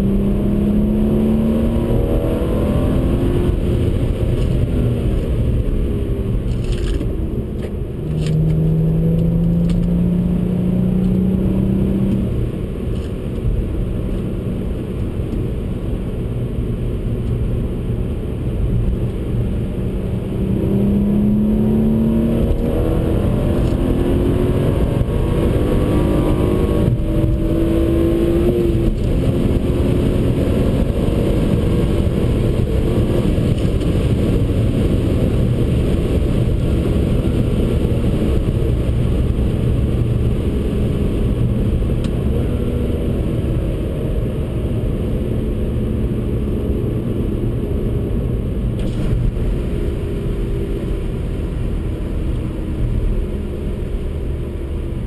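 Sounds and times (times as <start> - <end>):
car engine accelerating: 0.0 - 55.0
road and tyre rumble: 0.0 - 55.0.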